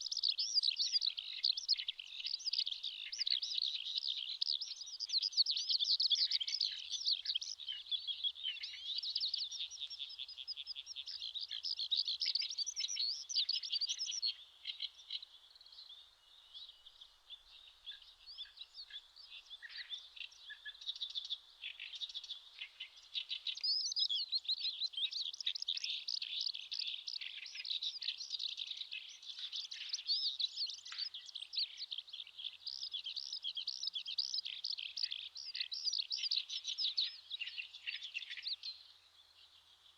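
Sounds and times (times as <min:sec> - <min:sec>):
skylark singing: 0:00.0 - 0:14.9, 0:17.4 - 0:38.8.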